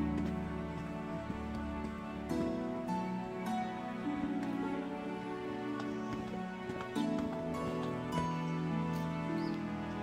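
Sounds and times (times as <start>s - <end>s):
music with long held notes: 0.0s - 10.0s.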